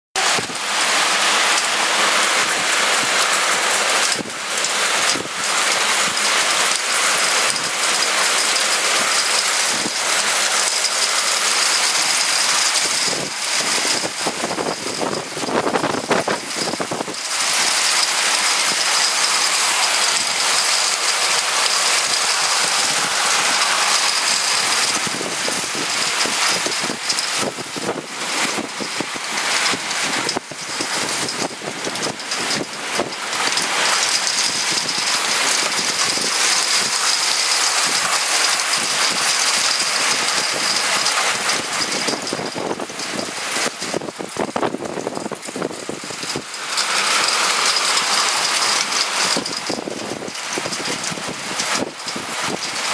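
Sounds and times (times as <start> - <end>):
hail and heavy rain pelting: 0.2 - 52.9.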